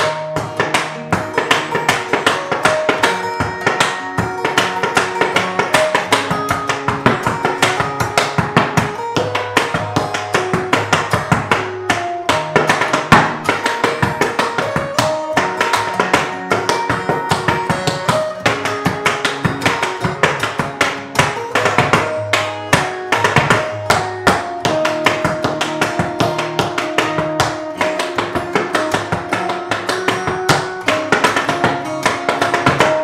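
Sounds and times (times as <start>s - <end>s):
acoustic guitar music: 0.0s - 33.0s
tap shoes on wooden board: 0.0s - 33.0s.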